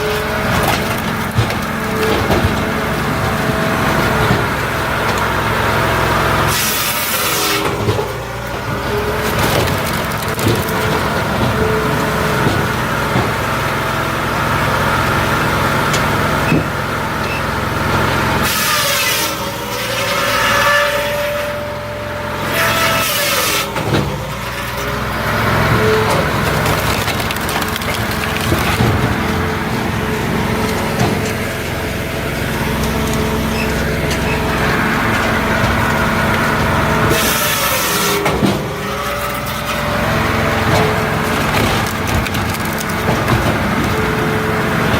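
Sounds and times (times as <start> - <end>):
wood cracking and splintering: 0.0 - 17.0, 17.9 - 21.4, 22.6 - 44.9
firewood processor engine drone: 0.0 - 44.9.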